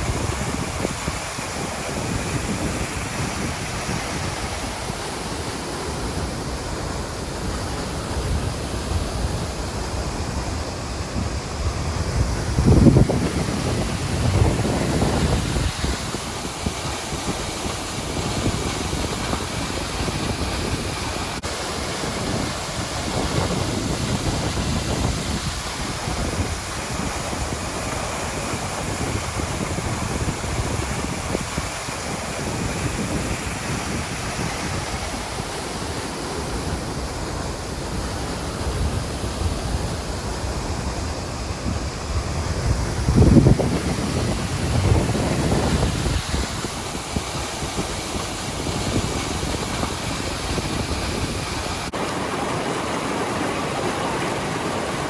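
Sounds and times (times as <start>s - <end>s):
waterfall roaring: 0.0s - 55.0s
wind buffeting the microphone: 0.0s - 55.0s.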